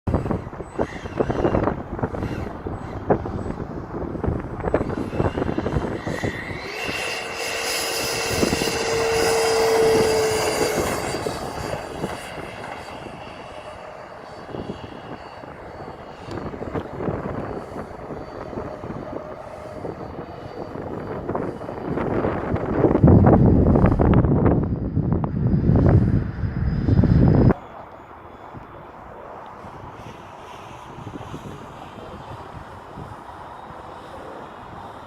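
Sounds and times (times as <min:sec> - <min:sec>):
model jet fan whining: 0:00.1 - 0:35.0.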